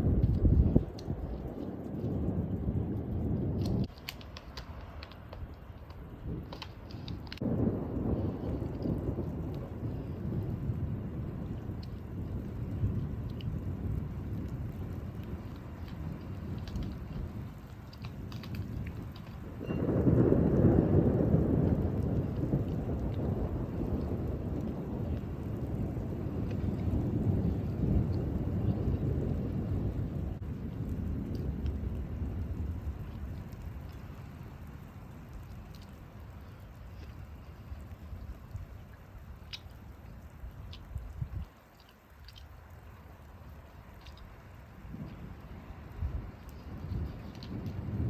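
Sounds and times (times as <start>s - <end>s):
rain falling: 0.0s - 48.0s
thunder rumbling: 0.0s - 48.0s.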